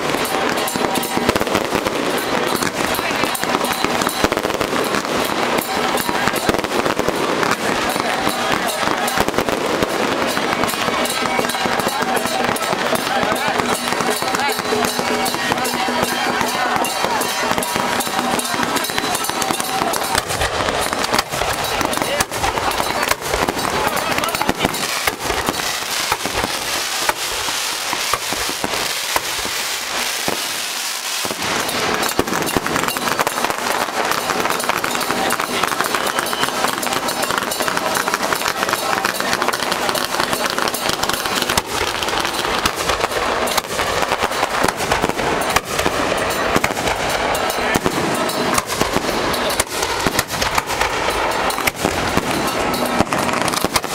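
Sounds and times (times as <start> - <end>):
firecrackers going off: 0.0 - 53.9.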